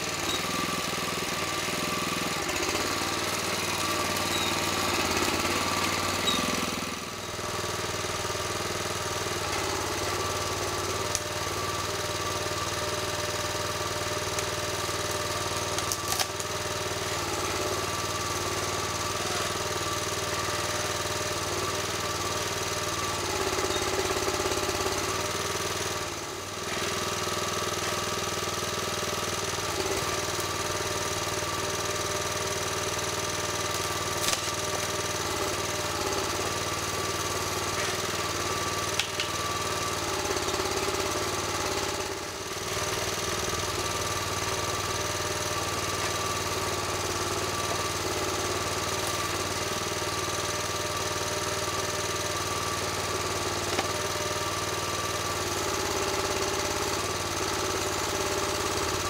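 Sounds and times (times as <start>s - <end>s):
small engine running steadily: 0.0s - 59.0s.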